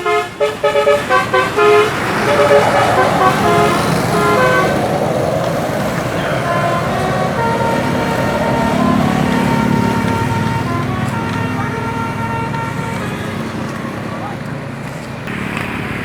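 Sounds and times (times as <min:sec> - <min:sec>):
multi-tone bus horn tune: 0:00.0 - 0:14.6
bus engine and road noise: 0:00.0 - 0:16.0.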